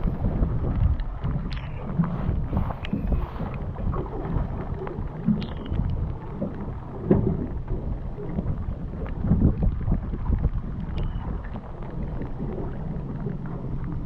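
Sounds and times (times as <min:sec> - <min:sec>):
water noise: 0:00.0 - 0:14.0
wind rumbling on microphone: 0:00.0 - 0:14.0.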